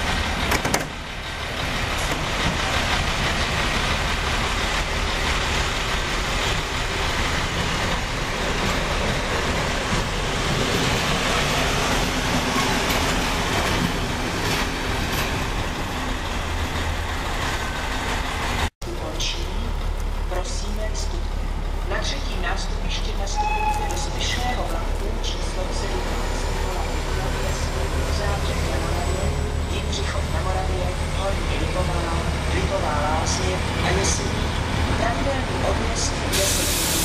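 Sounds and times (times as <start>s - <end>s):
diesel locomotive engine running: 0.0s - 37.0s.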